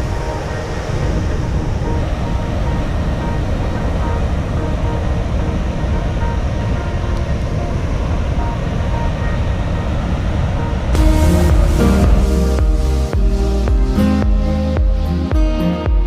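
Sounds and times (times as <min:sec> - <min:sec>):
waterfall roaring: 0:00.0 - 0:14.0
background music: 0:00.0 - 0:16.0.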